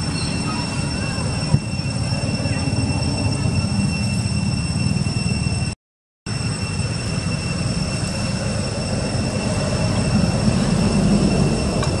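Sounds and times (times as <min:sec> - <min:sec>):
high-pitched whines: 0:00.0 - 0:12.0.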